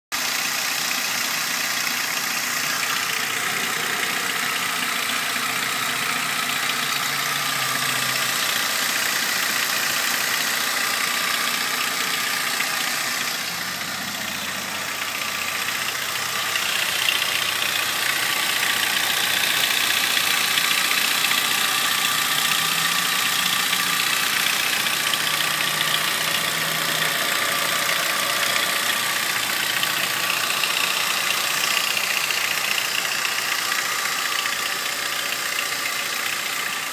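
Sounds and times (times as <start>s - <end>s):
engine idling with ticking: 0.1s - 36.9s.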